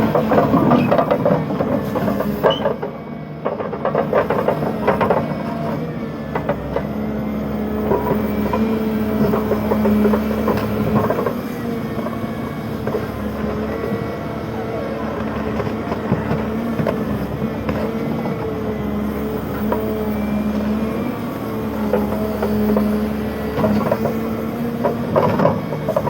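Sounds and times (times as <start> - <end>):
heavy machinery engine hum: 0.0 - 26.0.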